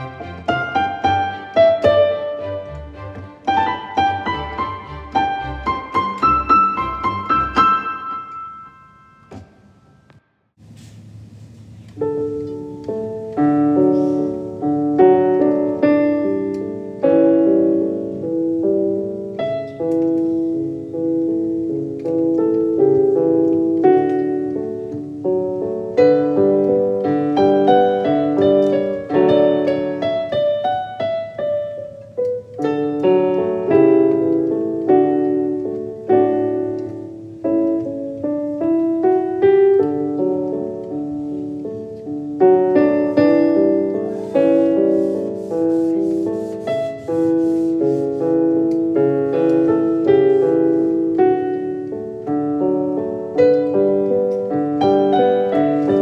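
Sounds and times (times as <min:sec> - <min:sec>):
gentle piano melody: 0:00.0 - 0:10.2, 0:11.7 - 0:56.0.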